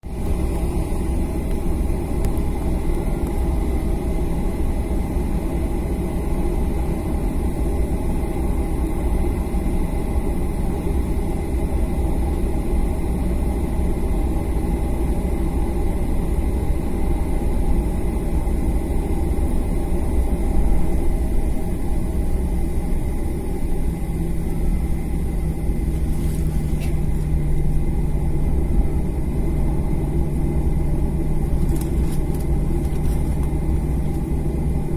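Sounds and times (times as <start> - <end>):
jet engines rumbling with whine: 0.0 - 34.9
steady low hum: 0.0 - 34.9.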